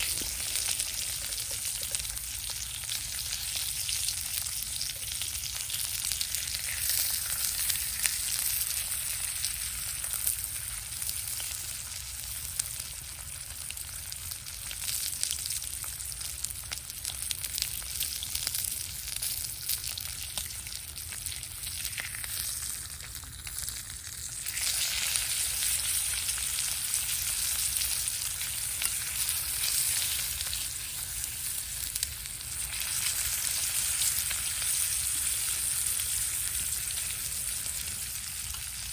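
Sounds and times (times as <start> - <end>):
food frying and sizzling: 0.0 - 38.9.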